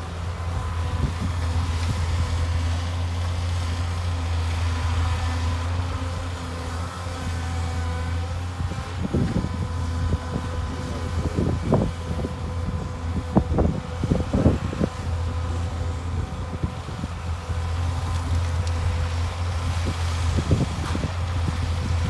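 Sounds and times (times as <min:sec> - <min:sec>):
excavator diesel engine droning: 0:00.0 - 0:22.0.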